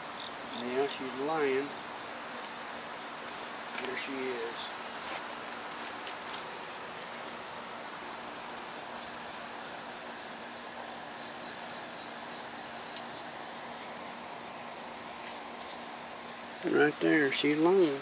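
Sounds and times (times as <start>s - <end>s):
honey bees humming: 0.0s - 18.0s
insects chirring: 0.0s - 18.0s.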